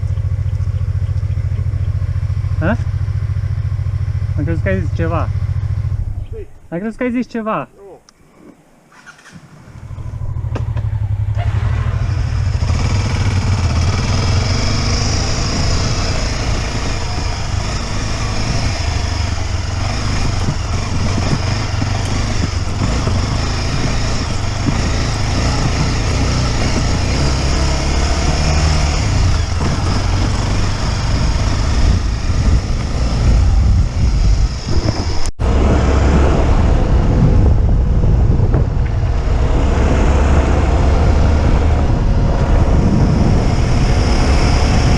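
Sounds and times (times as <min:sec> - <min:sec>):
motorcycle engine running: 0:00.0 - 0:06.5, 0:09.0 - 0:44.9.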